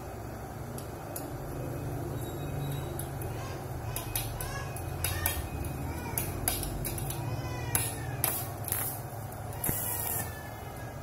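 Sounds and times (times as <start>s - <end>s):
welding arc crackling: 0.4s - 11.0s.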